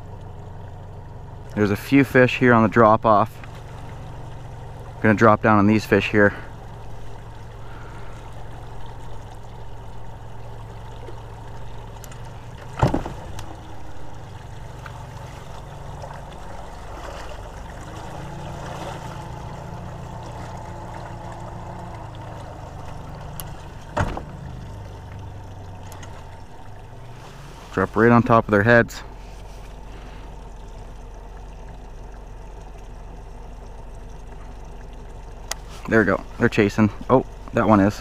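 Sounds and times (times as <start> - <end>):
steady low hum: 0.0 - 38.0
water lapping at boat hull: 0.0 - 38.0.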